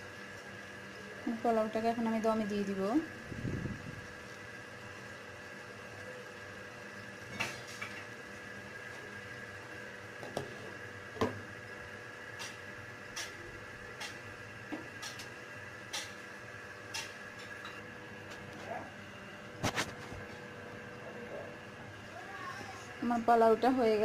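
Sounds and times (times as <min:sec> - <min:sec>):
kitchen hum: 0:00.0 - 0:24.0.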